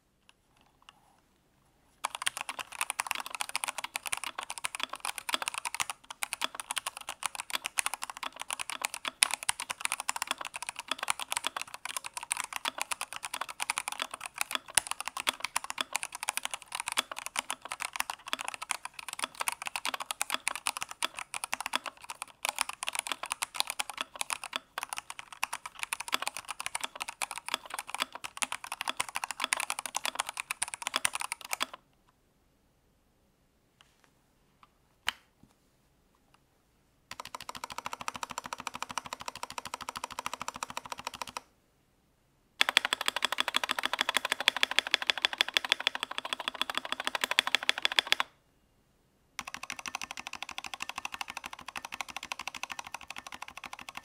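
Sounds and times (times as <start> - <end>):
mechanical keyboard typing: 2.0 - 31.8, 37.1 - 41.5, 42.6 - 48.4, 49.4 - 54.0.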